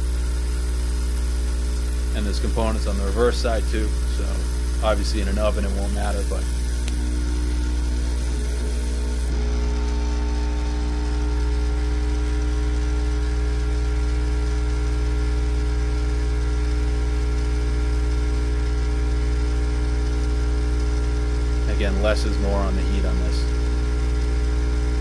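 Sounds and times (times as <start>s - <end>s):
hot-air blower humming: 0.0s - 25.0s.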